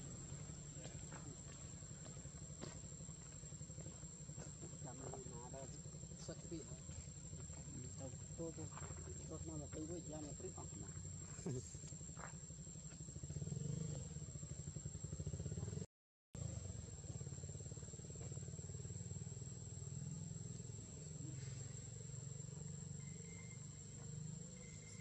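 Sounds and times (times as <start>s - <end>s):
high thin insect whine: 0.0s - 25.0s
low pulsing motor hum: 0.0s - 25.0s.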